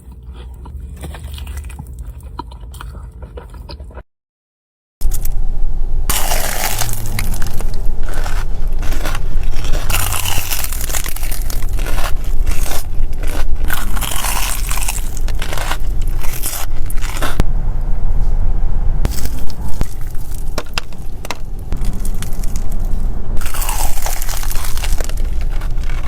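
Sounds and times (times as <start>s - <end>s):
crunchy chewing: 0.0s - 4.0s, 6.1s - 17.4s, 19.0s - 26.0s.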